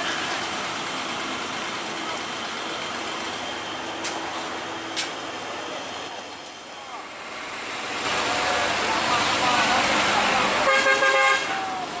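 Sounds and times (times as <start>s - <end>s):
road noise: 0.0s - 12.0s
vehicle engines humming: 0.0s - 12.0s.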